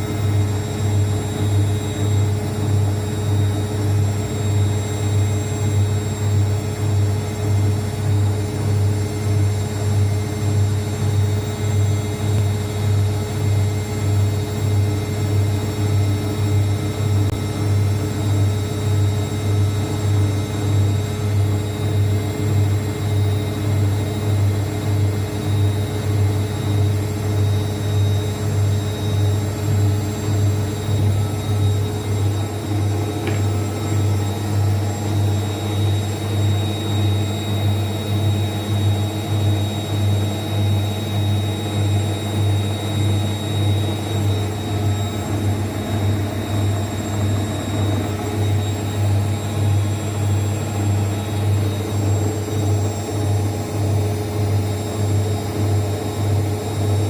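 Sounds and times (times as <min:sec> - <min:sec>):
washing machine hum: 0:00.0 - 0:57.0.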